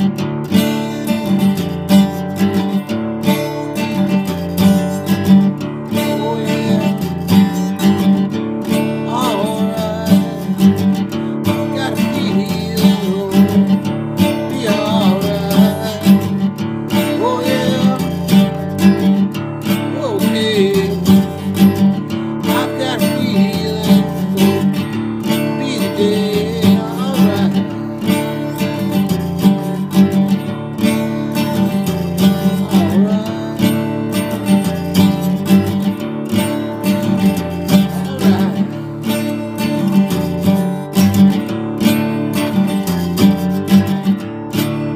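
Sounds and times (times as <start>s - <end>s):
acoustic guitar playing: 0.0s - 44.9s.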